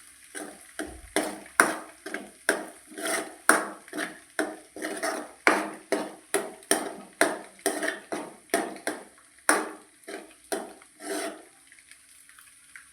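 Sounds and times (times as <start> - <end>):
metal spatula striking cooking pan: 0.4 - 11.5.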